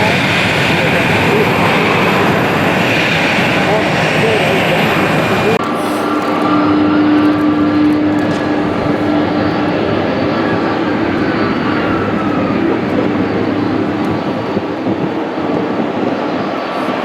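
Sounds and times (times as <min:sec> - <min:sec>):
airliner engines passing: 0:00.0 - 0:17.0.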